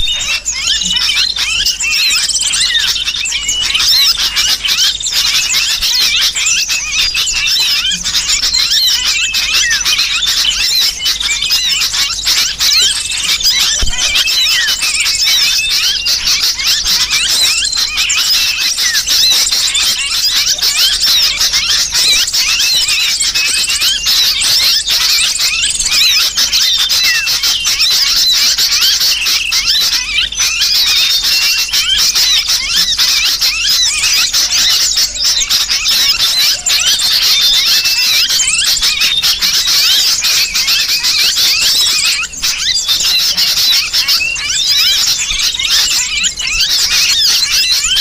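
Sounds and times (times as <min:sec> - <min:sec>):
bird distress cries: 0:00.0 - 0:48.0
small birds chirping: 0:00.0 - 0:48.0.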